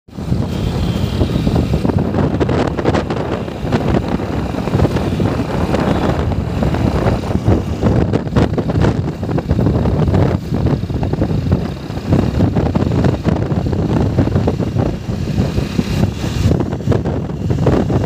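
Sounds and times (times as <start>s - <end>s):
vehicle engine and tyre rumble: 0.1s - 18.0s
wind buffeting microphone: 0.1s - 18.0s.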